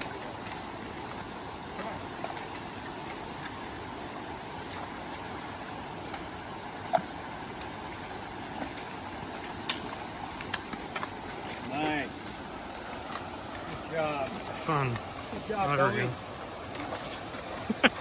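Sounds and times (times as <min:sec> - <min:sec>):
creek water rushing over rocks: 0:00.0 - 0:18.0.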